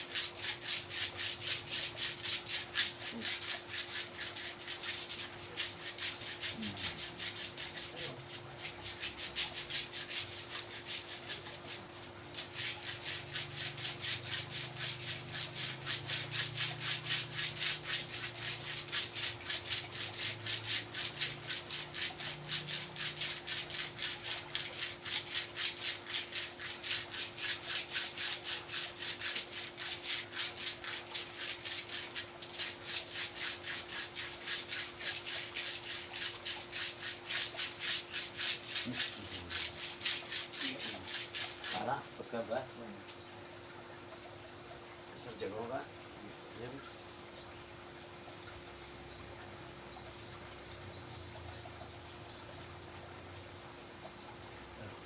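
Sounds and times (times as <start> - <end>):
rhythmic massage rubbing strokes: 0.0 - 46.8.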